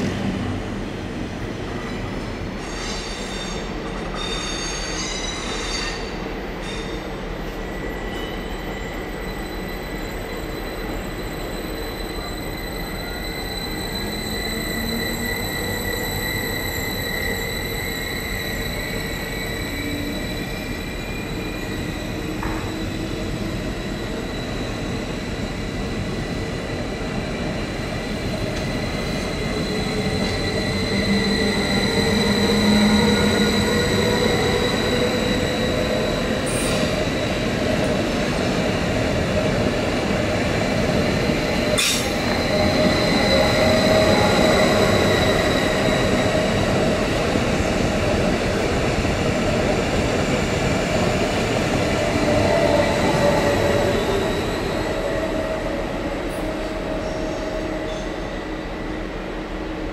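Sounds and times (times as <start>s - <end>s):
train wheels squealing: 1.8s - 59.9s.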